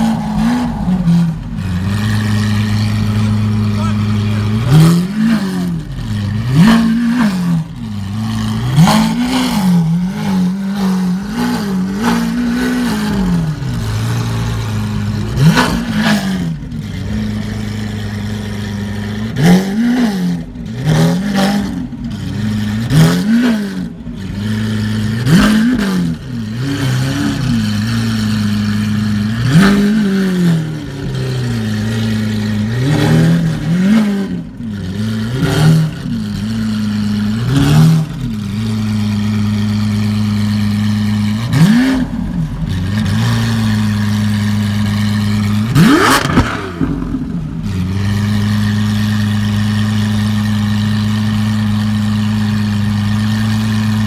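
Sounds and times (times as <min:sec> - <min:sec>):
sports car engine revving: 0:00.0 - 0:54.0.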